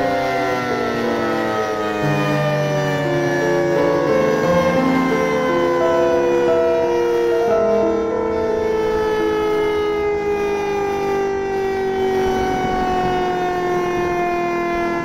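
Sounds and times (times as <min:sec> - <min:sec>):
sirens steady descending tone: 0:00.0 - 0:15.0.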